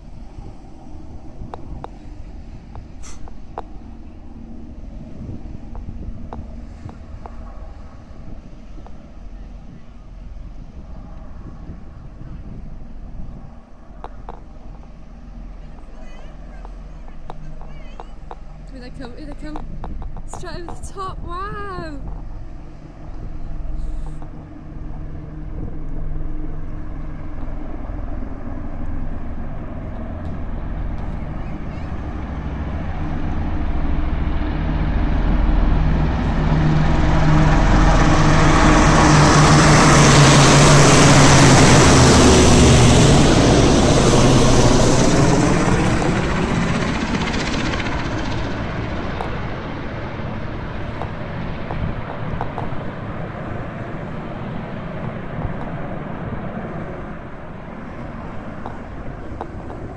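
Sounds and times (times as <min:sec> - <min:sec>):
helicopters flying overhead: 0:00.0 - 0:59.9.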